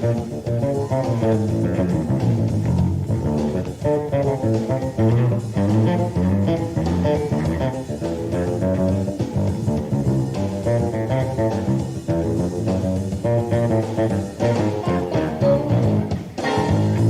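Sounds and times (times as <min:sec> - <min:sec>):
electric bass guitar solo: 0:00.0 - 0:17.0.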